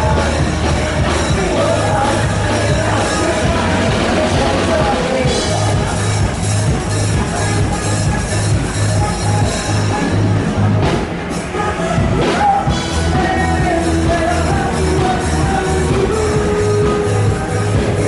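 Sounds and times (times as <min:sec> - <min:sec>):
loud music with bass beat: 0:00.0 - 0:18.0
person singing: 0:00.0 - 0:18.0.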